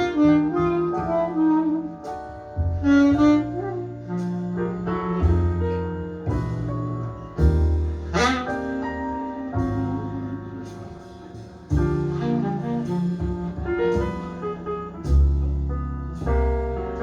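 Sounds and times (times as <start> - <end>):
double bass notes: 0.0 - 17.0
piano chords: 0.0 - 17.0
slow jazz ballad over loudspeakers: 0.0 - 17.0.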